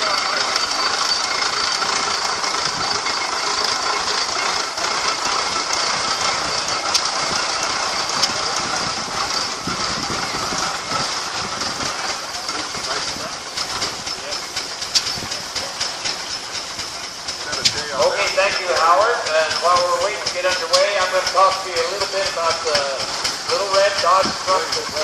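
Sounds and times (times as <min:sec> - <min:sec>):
steam engine hissing: 0:00.0 - 0:25.0.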